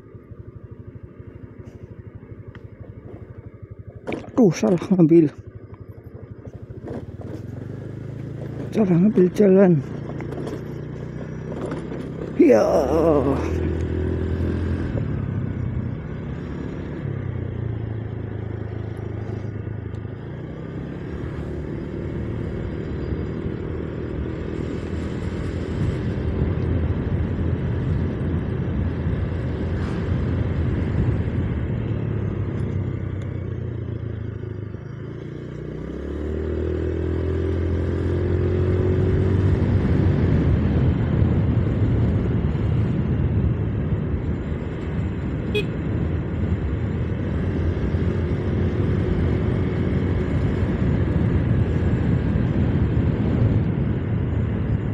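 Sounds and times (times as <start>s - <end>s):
motorcycle engine running: 0.0s - 54.9s
road noise: 0.0s - 54.9s.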